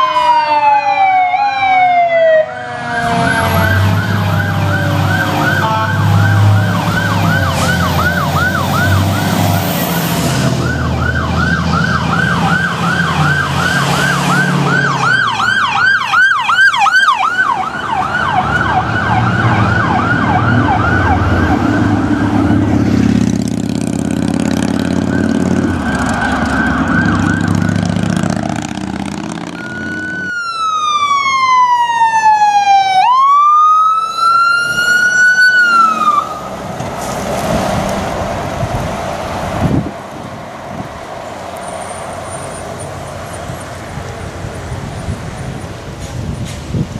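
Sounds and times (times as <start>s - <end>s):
emergency vehicle siren: 0.0s - 46.9s
truck engine rumbling: 0.0s - 46.9s.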